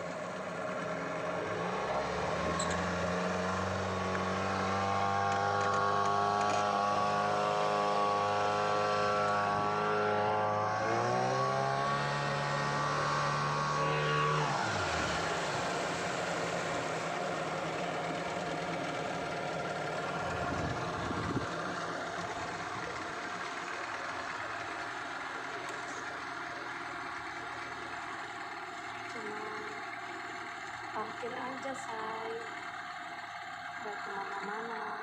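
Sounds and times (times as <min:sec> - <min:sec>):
speedboat engine running: 0:00.0 - 0:35.0.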